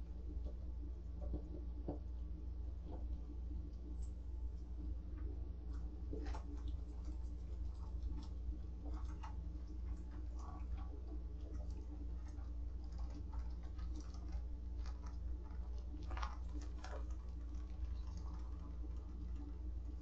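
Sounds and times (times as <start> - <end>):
faint ticks and scratches: 0.0 - 20.0
low electrical hum: 0.0 - 20.0.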